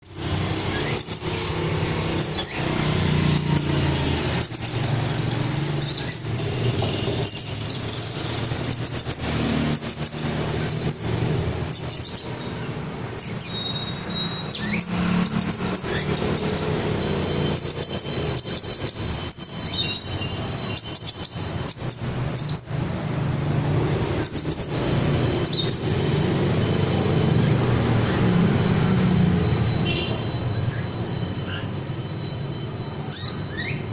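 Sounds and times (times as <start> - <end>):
bird chirping and trilling: 0.0 - 33.9.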